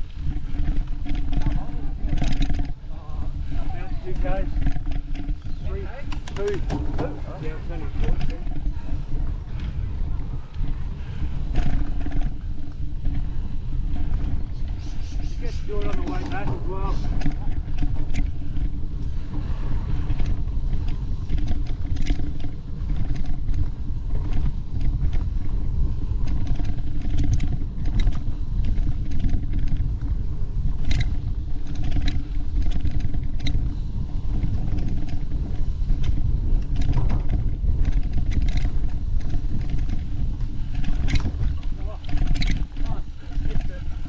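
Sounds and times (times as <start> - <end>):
knocks and rattles on rough trail: 0.0 - 44.0
vehicle engine rumbling: 0.0 - 44.0.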